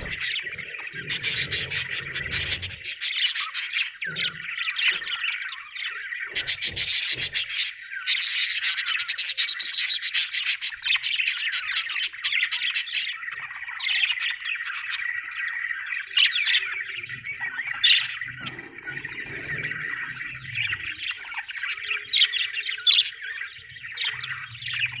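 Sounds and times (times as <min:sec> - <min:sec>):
budgerigar chirping and warbling: 0:00.0 - 0:25.0.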